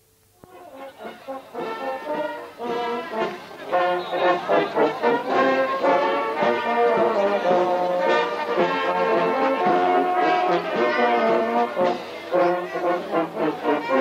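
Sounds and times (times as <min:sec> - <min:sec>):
marching brass band playing: 0:00.4 - 0:14.0.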